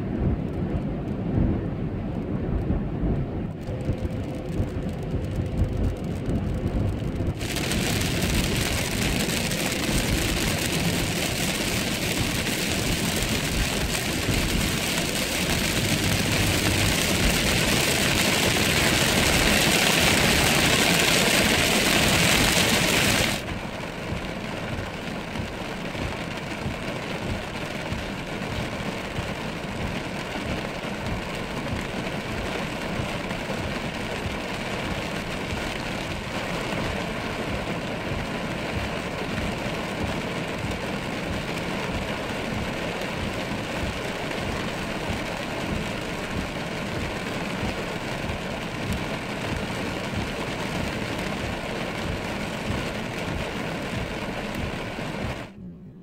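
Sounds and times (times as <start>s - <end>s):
dull road noise: 0.0s - 56.0s
rain and tyre spray hiss: 3.5s - 55.6s.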